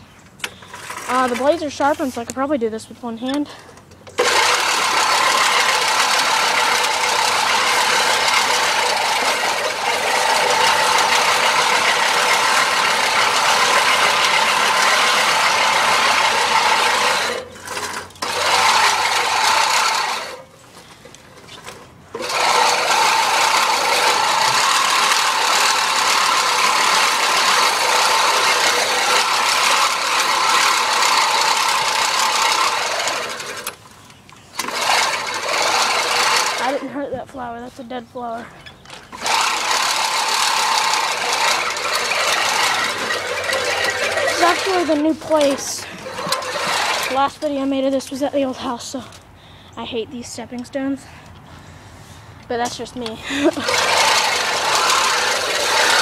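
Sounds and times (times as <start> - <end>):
reel mower cutting grass: 0.5 - 2.3, 4.1 - 20.6, 21.5 - 33.8, 34.5 - 37.0, 38.9 - 47.6, 52.6 - 56.0.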